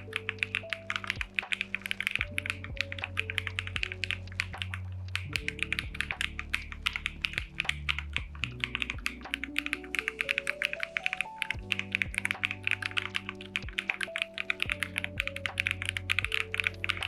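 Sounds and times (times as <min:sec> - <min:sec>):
background music with bass: 0:00.0 - 0:17.0
rapid mechanical keyboard typing: 0:00.0 - 0:17.0.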